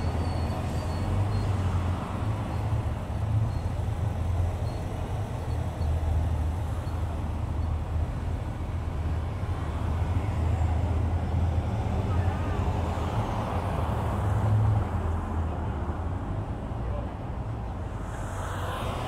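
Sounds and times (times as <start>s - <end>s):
traffic rumble of engines and tyres: 0.0s - 19.0s.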